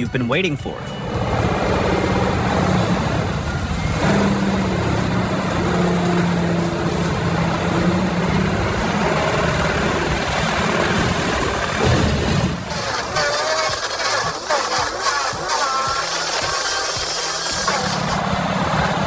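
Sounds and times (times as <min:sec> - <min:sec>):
heavy engine under load: 0:01.0 - 0:19.0.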